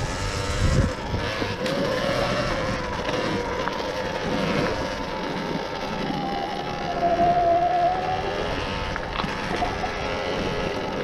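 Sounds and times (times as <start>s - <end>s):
electric motor whine: 0.0s - 11.0s
tyre and wind noise: 0.0s - 11.0s.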